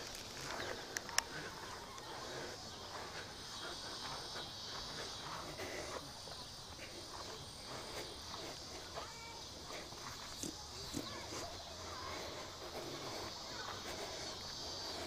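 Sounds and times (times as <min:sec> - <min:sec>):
insect chorus chirring: 0:00.0 - 0:15.0.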